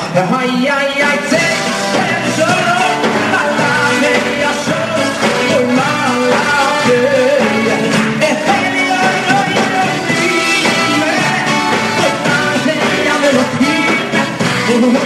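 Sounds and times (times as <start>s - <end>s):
live band playing rock-folk song: 0.0s - 15.0s
man singing into microphone: 0.0s - 15.0s.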